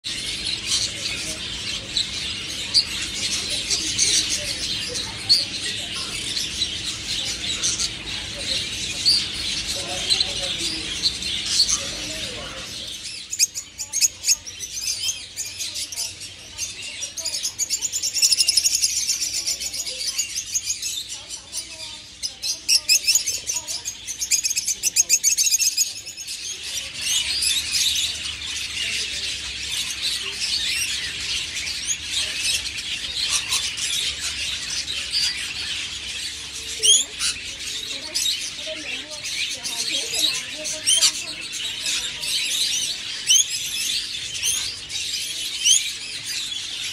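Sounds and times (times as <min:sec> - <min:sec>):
parrots chirping and chattering: 0:00.0 - 0:46.9.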